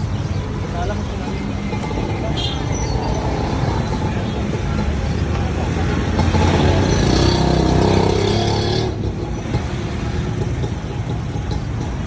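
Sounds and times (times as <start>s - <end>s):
steady traffic noise: 0.0s - 12.0s.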